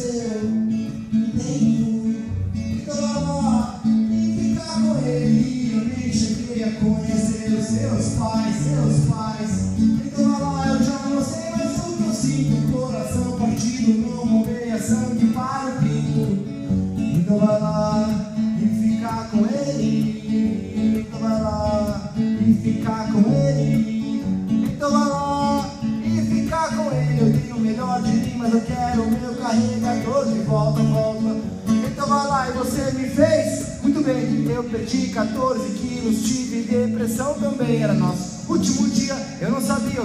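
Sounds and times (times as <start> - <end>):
acoustic guitar strumming: 0.0 - 40.0
man singing: 0.0 - 40.0.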